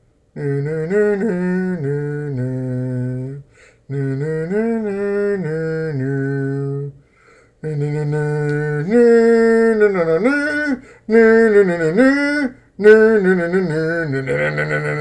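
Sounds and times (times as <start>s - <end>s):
man singing wordless tune: 0.3s - 15.0s.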